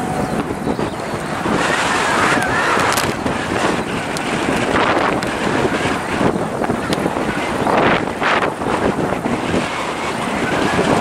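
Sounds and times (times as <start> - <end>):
distant jet airliner rush: 0.0 - 11.0
wind buffeting microphone: 0.0 - 11.0.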